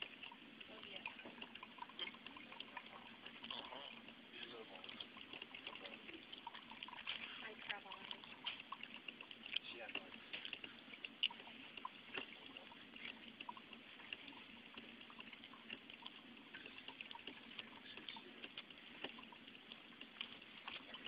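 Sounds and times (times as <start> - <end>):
coffee maker sputtering and dripping: 0.0 - 21.0.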